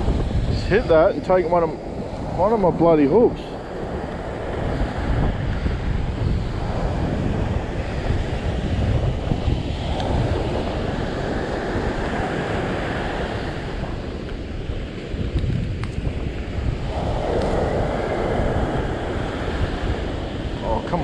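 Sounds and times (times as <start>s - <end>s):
surf on a beach: 0.0s - 21.0s
wind buffeting microphone: 0.0s - 21.0s.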